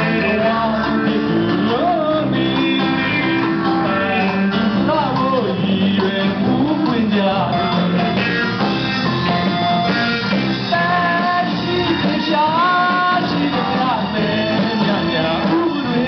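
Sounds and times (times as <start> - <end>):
man singing into microphone: 0.0 - 8.2, 10.6 - 16.0
live band with guitars and drums: 0.0 - 16.0.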